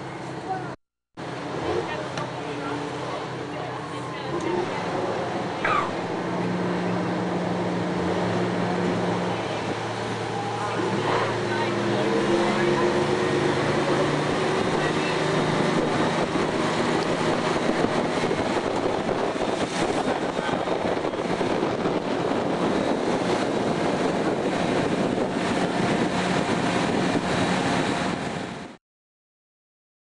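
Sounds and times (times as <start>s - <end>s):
motor boat engine running: 0.0s - 28.8s
water rushing: 0.0s - 28.8s
wind on microphone: 4.6s - 28.7s.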